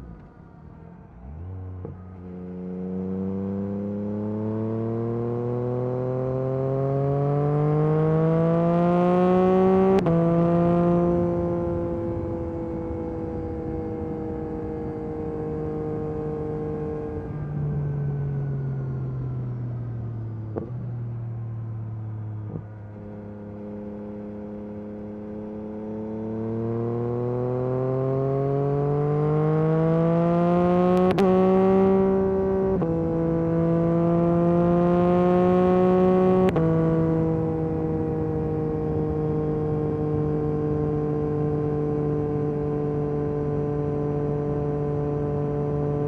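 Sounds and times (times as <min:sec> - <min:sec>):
motorcycle engine revving: 0:01.2 - 0:18.4, 0:22.3 - 0:46.0.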